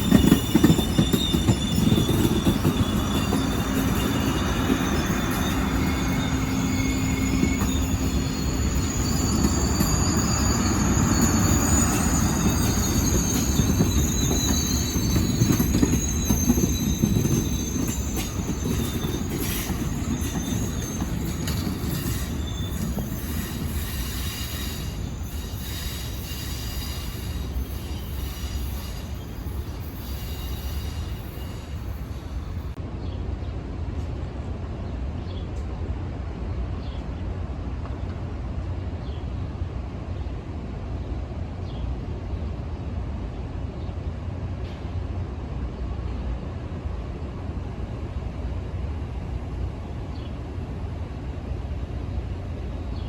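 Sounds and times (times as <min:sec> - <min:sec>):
train wheels squealing on rails: 0:00.0 - 0:32.8, 0:37.9 - 0:53.0
train rumbling past: 0:00.0 - 0:53.0.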